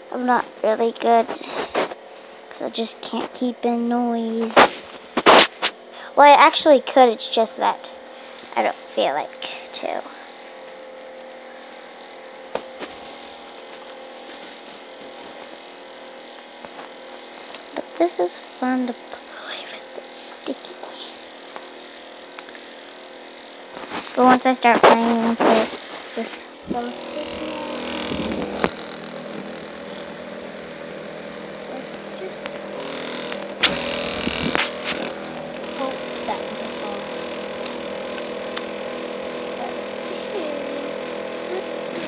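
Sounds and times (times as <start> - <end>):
faint hum and hiss: 0.0 - 42.0.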